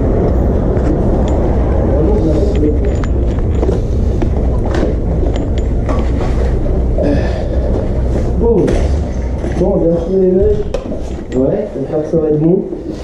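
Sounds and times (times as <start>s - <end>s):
wind rumbling over microphone: 0.0s - 11.8s
road and tyre noise: 0.0s - 13.0s.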